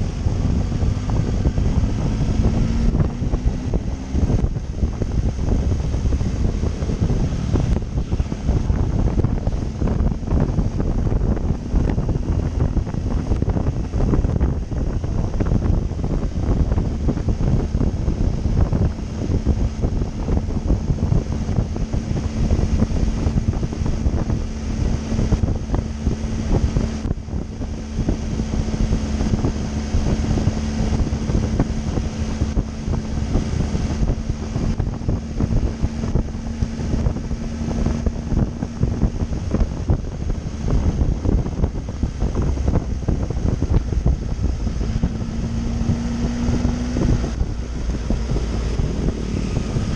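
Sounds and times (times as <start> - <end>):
motorcycle engine humming: 0.0 - 49.9
wind buffeting microphone: 0.0 - 49.9.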